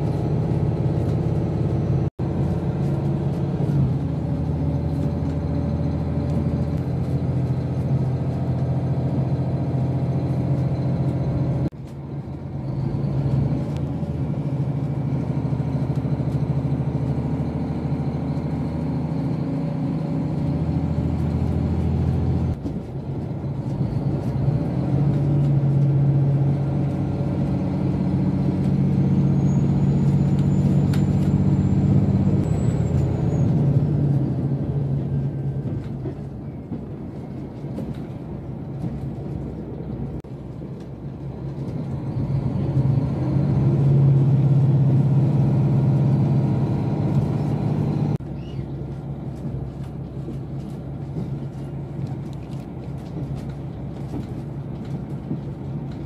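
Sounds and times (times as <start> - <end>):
diesel train engine drone: 0.0 - 56.0
rail and wheel noise: 0.0 - 56.0.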